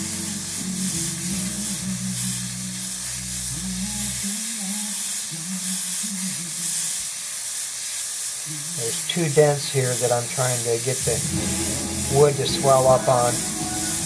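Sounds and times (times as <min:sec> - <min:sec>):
steam hissing: 0:00.0 - 0:14.0.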